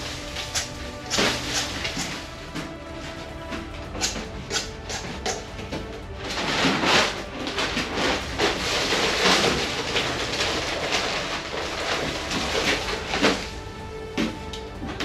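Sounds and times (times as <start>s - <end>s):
gritty mortar scraping: 0.0s - 15.0s.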